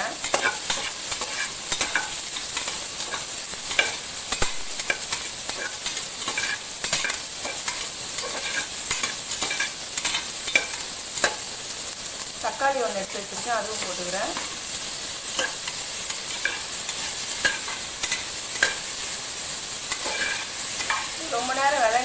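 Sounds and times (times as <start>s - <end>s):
onions and spices sizzling in oil: 0.0s - 22.0s.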